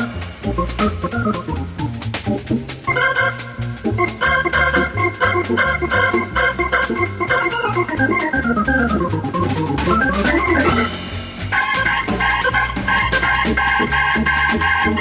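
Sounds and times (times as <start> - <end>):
drum beat: 0.0 - 15.0
organ chords: 0.0 - 15.0.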